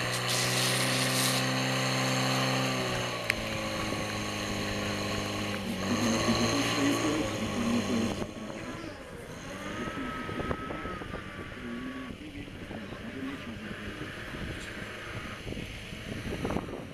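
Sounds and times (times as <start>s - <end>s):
pump engine running: 0.0s - 16.9s.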